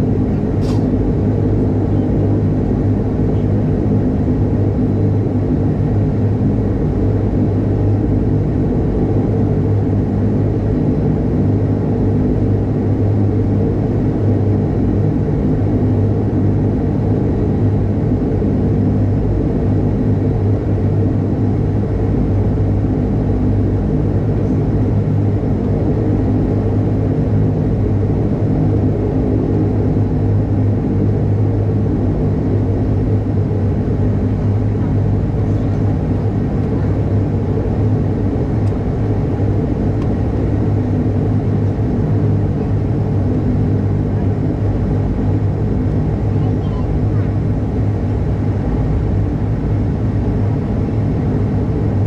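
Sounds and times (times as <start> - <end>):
turboprop engine drone: 0.0 - 52.0.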